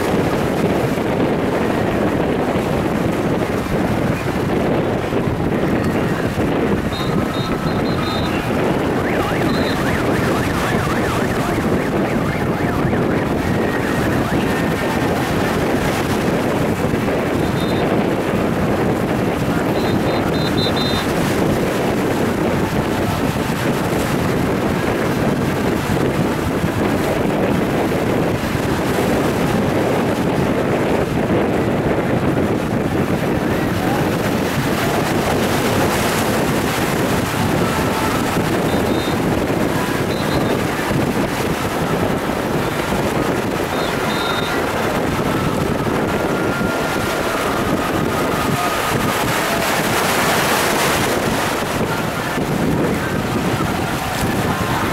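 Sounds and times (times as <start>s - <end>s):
water washing: 0.0s - 54.9s
wind buffeting microphone: 0.0s - 54.9s.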